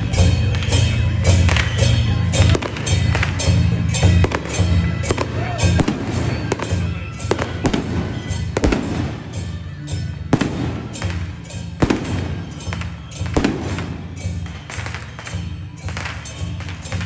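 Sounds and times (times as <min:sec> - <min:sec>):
firecrackers banging: 0:00.0 - 0:17.0.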